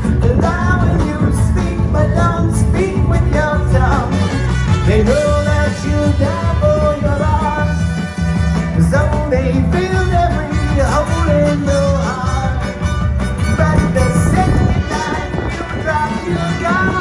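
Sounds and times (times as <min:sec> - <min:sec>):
loud rock band music: 0:00.0 - 0:17.0.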